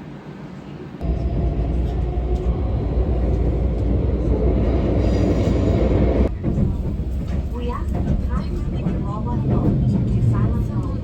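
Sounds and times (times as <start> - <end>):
train rumbling: 0.5 - 11.0.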